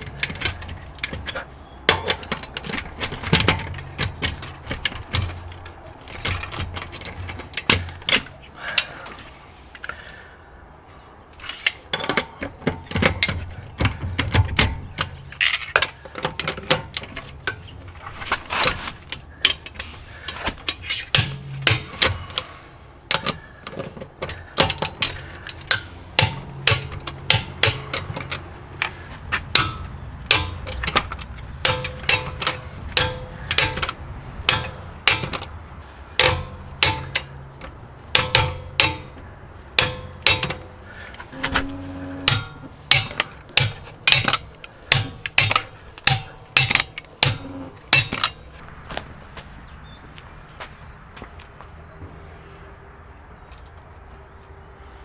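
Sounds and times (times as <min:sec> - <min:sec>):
hand tool clicks and knocks: 0:00.0 - 0:10.1, 0:11.4 - 0:51.4.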